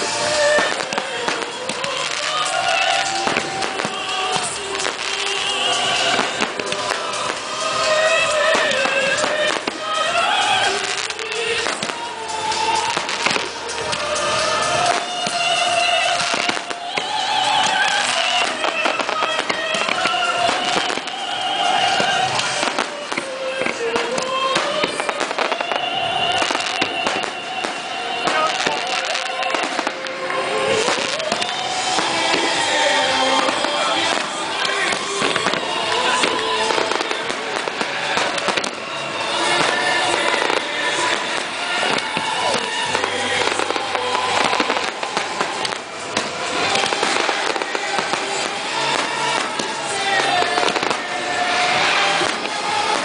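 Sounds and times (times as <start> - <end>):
fireworks bursting and crackling: 0.0 - 53.0.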